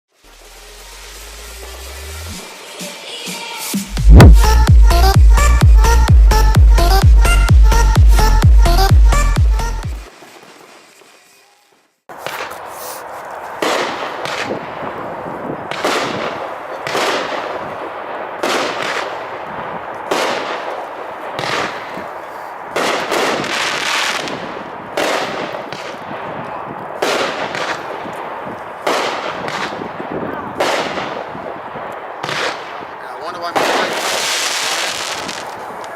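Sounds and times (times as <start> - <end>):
fireworks crackling: 0.1 - 35.9
fireworks booming shots: 3.9 - 9.1, 12.1 - 35.9.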